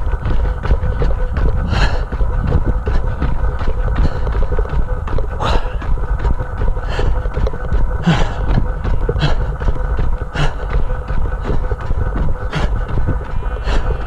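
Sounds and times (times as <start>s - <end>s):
footfalls on dirt path: 0.0s - 14.0s
runner breathing hard: 0.0s - 14.0s
wind rumble on microphone: 0.0s - 14.0s.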